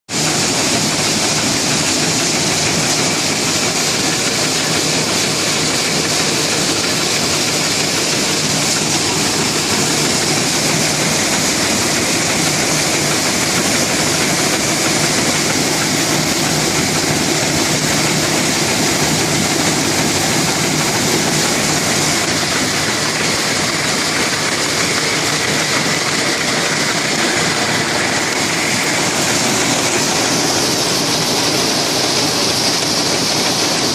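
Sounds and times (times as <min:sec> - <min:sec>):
rice milling machine running: 0:00.1 - 0:33.9.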